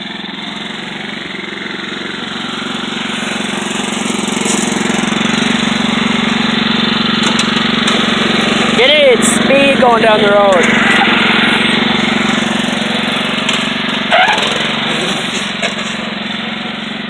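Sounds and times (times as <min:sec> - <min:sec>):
riding lawn mower engine running: 0:00.0 - 0:17.0.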